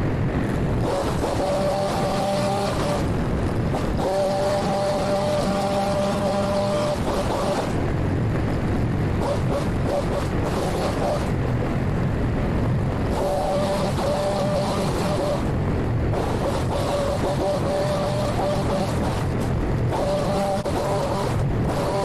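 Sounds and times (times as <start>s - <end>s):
two-stroke trimmer engine revving: 0.4s - 7.8s, 9.1s - 11.3s, 13.0s - 22.0s.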